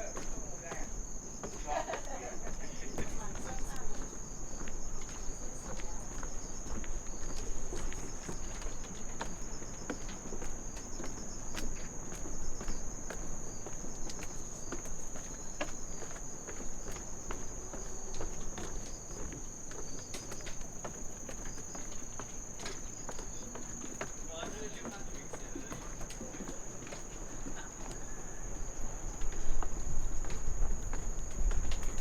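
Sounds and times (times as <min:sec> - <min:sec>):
crickets chirping: 0:00.0 - 0:32.0
footsteps on path: 0:00.0 - 0:32.0.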